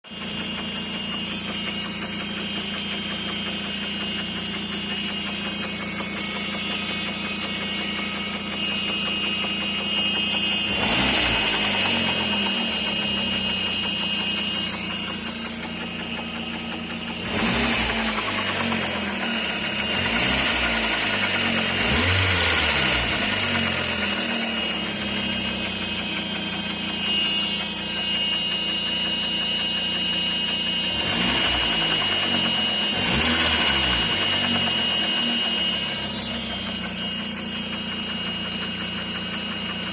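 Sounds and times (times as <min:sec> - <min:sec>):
car engine idling and revving: 0:00.0 - 0:39.9
engine knocking: 0:00.0 - 0:39.9.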